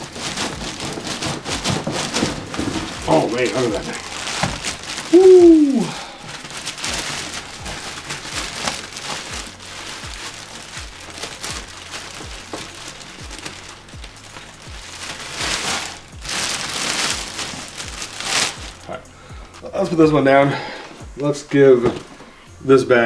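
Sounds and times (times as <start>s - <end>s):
plastic packaging crinkling: 0.0s - 20.0s, 20.9s - 22.4s
faint background music with beat: 0.0s - 23.0s.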